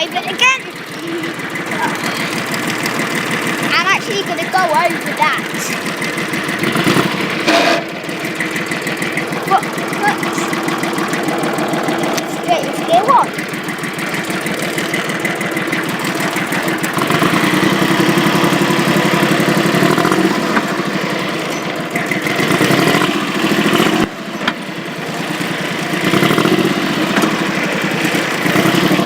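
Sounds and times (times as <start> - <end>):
diesel tractor engine revving: 0.0 - 29.0.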